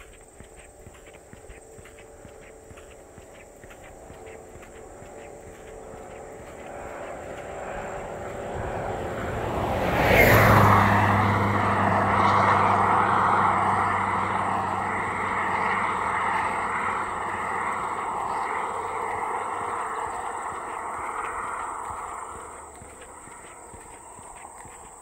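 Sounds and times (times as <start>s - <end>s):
engine hum and tyre noise: 0.0s - 25.0s
vehicle passing by: 0.0s - 25.0s.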